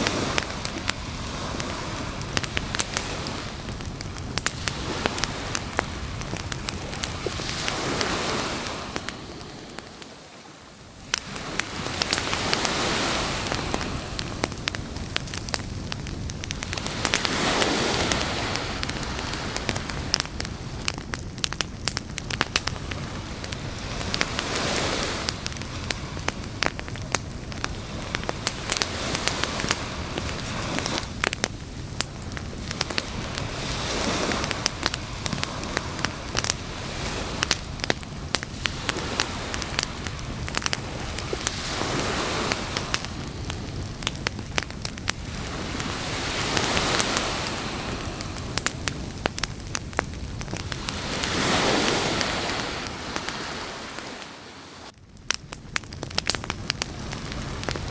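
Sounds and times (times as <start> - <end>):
surf rushing: 0.0 - 21.0, 22.2 - 54.9
campfire crackling and popping: 0.0 - 57.9.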